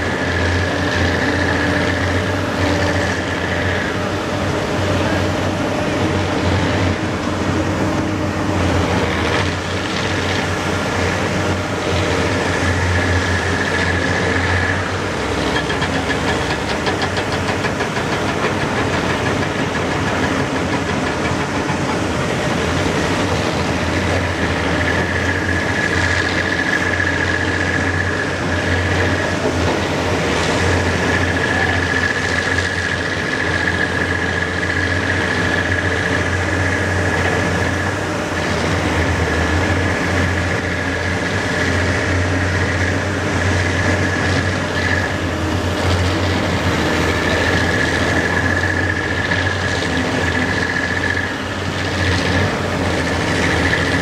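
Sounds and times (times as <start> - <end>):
excavator diesel engine running: 0.0 - 54.0
high steady whine: 0.0 - 54.0.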